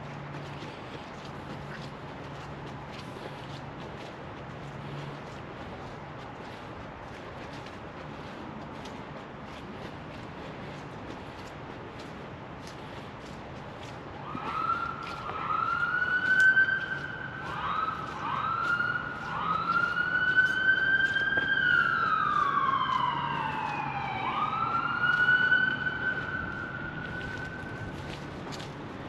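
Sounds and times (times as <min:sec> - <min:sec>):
faint footsteps clicking: 0:00.0 - 0:29.0.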